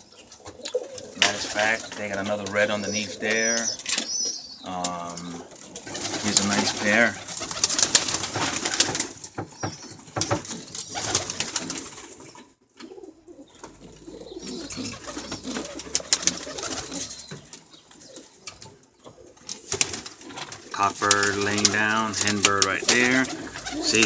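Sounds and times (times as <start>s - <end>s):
pigeons cooing: 0.0s - 24.0s
birds scuffling and clicking: 0.1s - 24.0s.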